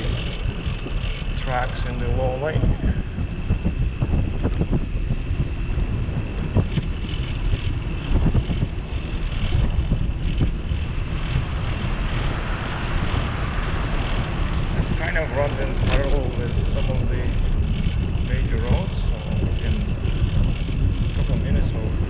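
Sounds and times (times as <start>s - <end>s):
bicycle riding rumble: 0.0s - 22.0s
bike knocks and rattles: 0.0s - 22.0s
wind rushing over microphone: 0.0s - 22.0s.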